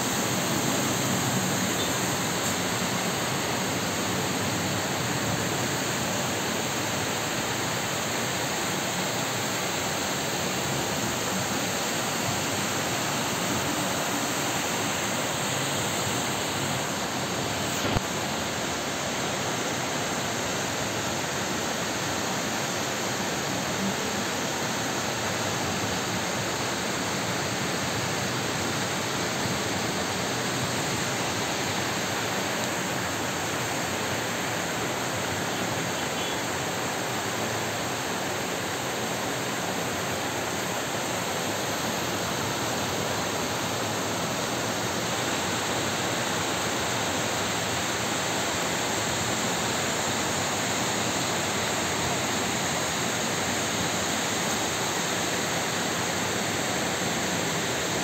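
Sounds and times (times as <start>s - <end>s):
heavy rain downpour: 0.0s - 58.0s.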